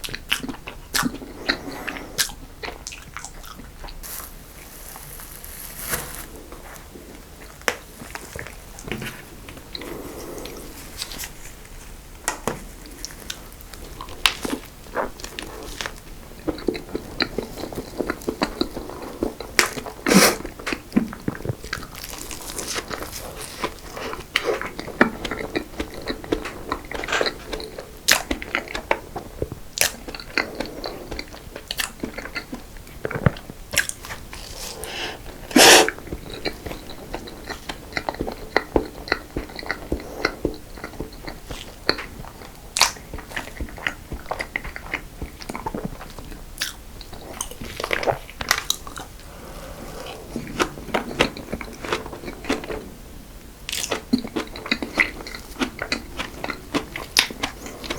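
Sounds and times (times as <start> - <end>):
chewing with crisp crunches: 0.0 - 57.9.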